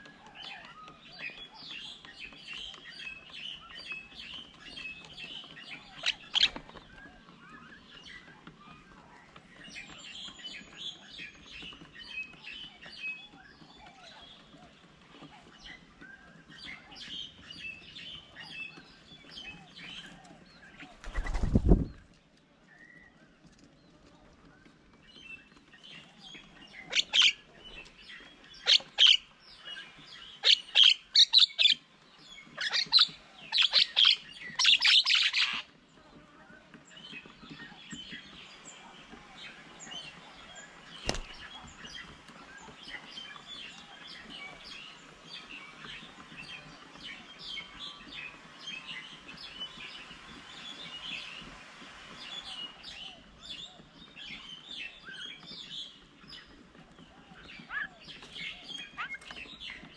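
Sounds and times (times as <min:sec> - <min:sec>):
birds calling harshly: 0:00.0 - 0:22.1, 0:25.0 - 0:35.8, 0:37.0 - 0:59.9
birds chirping and chattering: 0:00.0 - 0:59.9.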